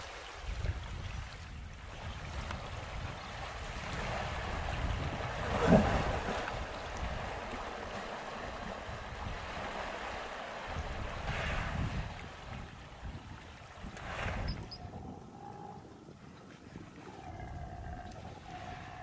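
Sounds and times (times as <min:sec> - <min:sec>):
moving water: 0:00.0 - 0:19.0
wind buffeting microphone: 0:00.4 - 0:19.0.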